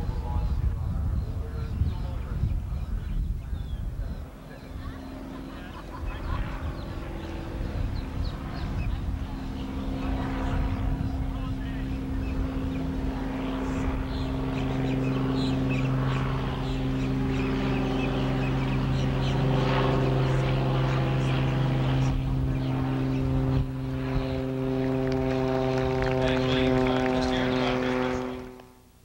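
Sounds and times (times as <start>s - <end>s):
engine drone: 0.0s - 29.0s.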